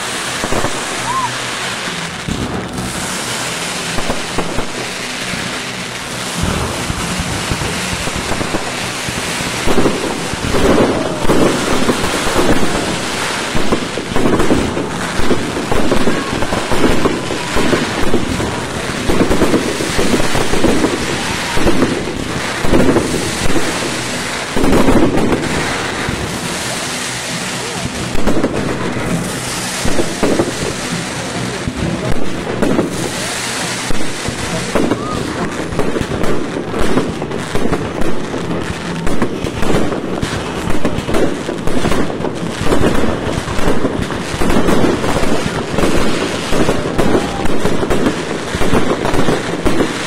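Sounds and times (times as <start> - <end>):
fireworks booming: 0.0 - 50.0
steady background noise: 0.0 - 50.0.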